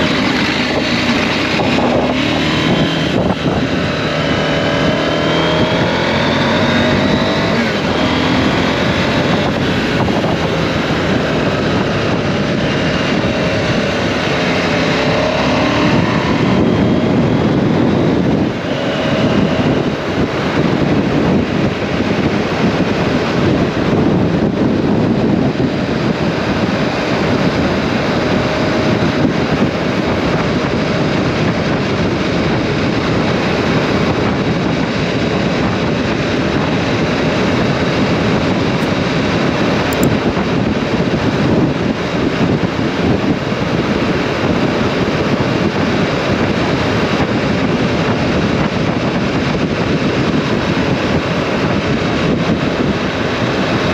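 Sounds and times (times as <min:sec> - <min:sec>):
motorcycle engine riding: 0:00.0 - 0:53.9
wind rush on microphone: 0:00.0 - 0:53.9.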